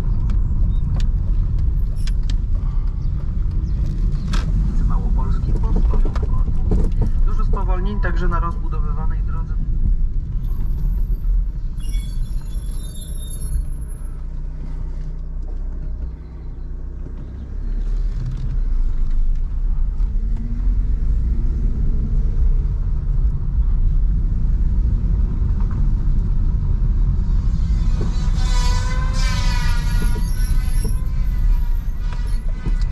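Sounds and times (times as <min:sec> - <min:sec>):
car engine rumble: 0:00.0 - 0:32.9.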